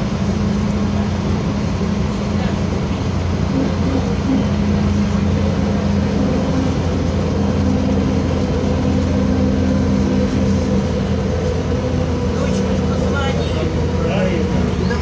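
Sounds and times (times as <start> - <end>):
bus engine drone and road noise: 0.0 - 15.0.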